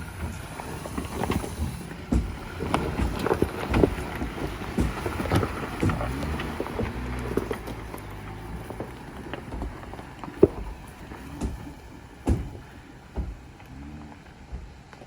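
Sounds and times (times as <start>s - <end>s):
tyres crunching on rocks: 0.0s - 15.0s.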